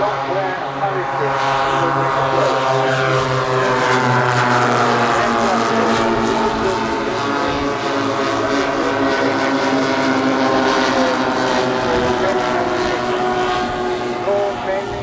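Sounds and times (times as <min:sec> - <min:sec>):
model airplane engines droning: 0:00.0 - 0:15.0.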